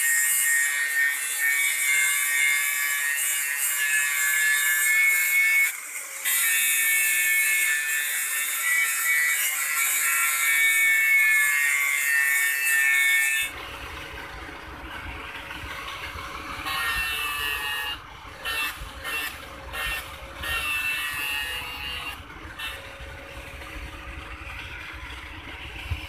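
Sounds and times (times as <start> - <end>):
angle grinder grinding steel: 0.0 - 26.0.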